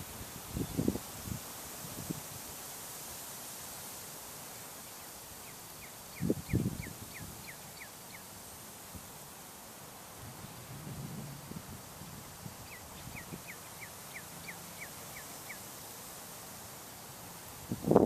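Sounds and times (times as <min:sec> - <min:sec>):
wind through trees and grass: 0:00.0 - 0:18.0.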